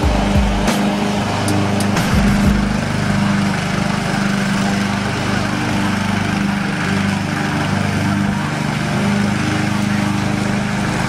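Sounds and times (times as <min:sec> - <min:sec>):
ride-on lawn mower engine: 0:00.0 - 0:11.0.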